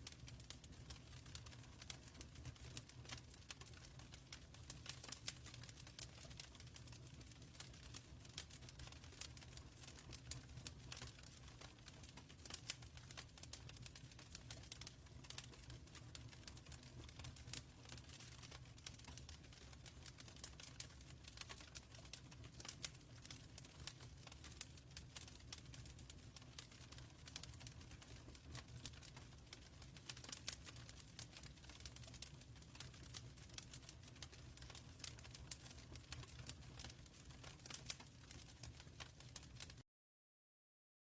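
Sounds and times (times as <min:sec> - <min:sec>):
wood fire crackling: 0:00.0 - 0:39.8.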